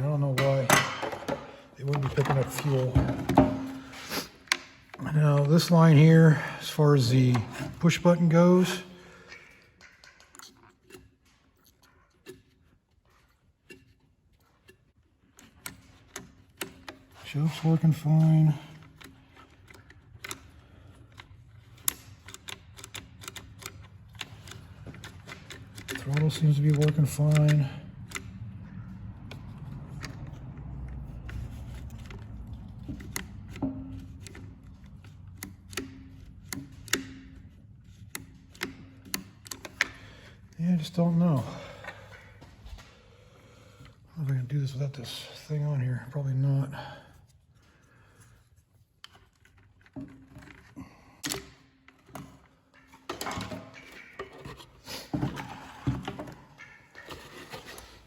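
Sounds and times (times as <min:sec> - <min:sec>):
chainsaw parts clicking and knocking: 0:00.0 - 0:13.0, 0:13.6 - 0:42.5, 0:48.2 - 0:58.0.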